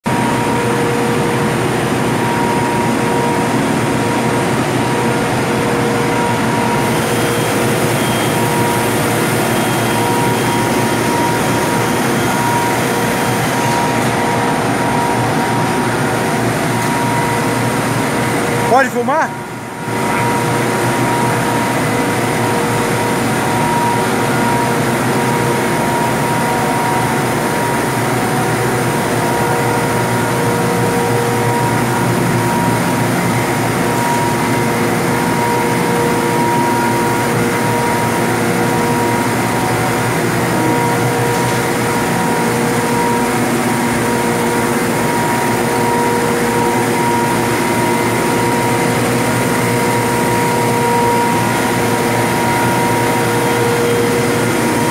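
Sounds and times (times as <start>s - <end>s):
loud industrial hum: 0.0s - 54.9s
machine whining tones: 0.1s - 54.9s.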